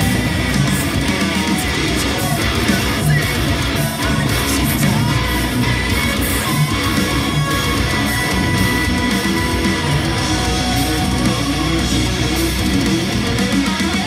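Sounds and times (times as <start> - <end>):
heavy metal electric guitar: 0.0 - 14.0
recorded song with vocals: 0.0 - 14.0.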